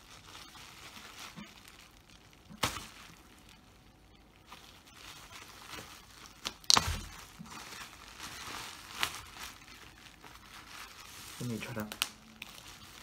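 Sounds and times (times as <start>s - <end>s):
bubble wrap snaps: 0.0s - 3.8s, 4.4s - 13.0s
bubble wrap crinkling: 0.0s - 13.0s.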